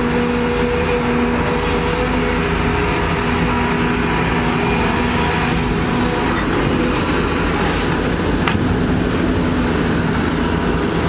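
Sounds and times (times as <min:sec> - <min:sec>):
excavator diesel engine running: 0:00.0 - 0:11.0
hydraulic whine: 0:00.0 - 0:11.0.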